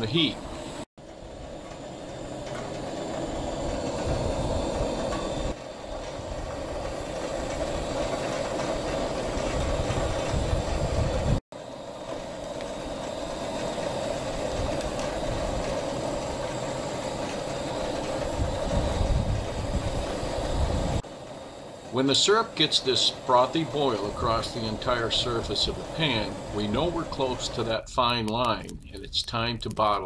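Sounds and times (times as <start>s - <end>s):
camp stove burner rushing: 0.0s - 30.0s.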